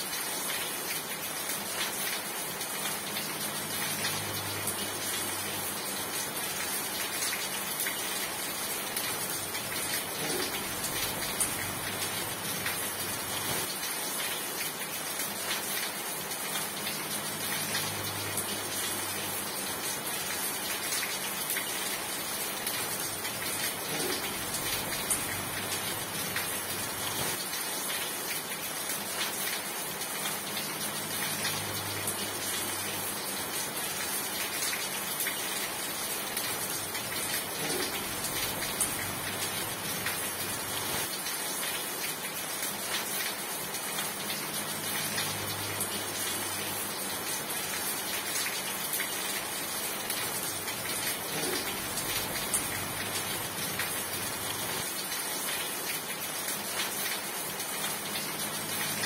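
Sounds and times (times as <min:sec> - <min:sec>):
raindrops pattering: 0:00.0 - 0:59.0
steady rain hiss: 0:00.0 - 0:59.0.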